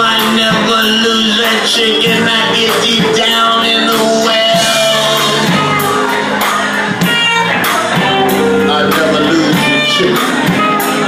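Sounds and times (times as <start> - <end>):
soul blues band music: 0.0 - 11.0.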